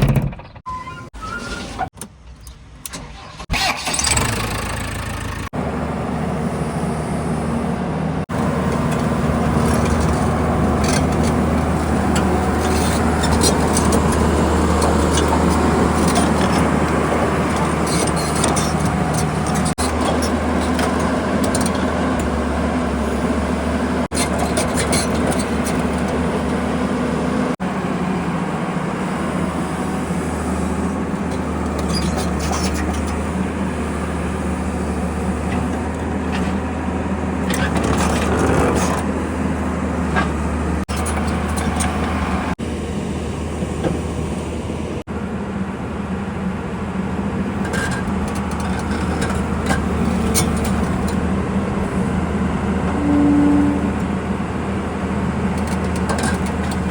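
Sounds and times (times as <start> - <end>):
heavy machinery diesel engine running: 3.1 - 56.9.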